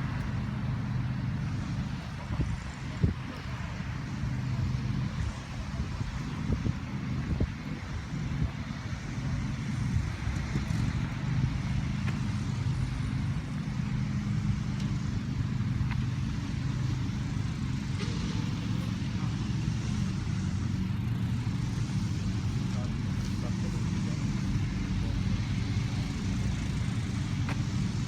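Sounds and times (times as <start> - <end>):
steady low engine drone: 0.0 - 28.0.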